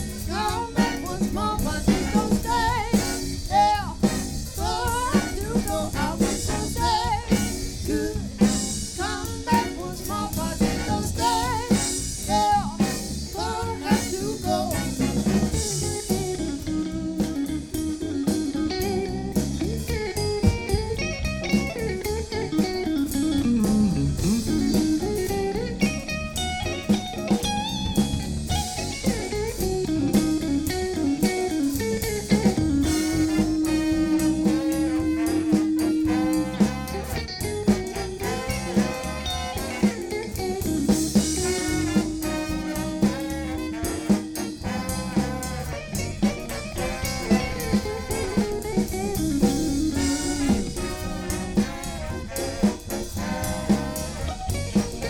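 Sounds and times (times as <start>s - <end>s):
cymbals: 0.0s - 55.0s
live blues band playing: 0.0s - 55.0s.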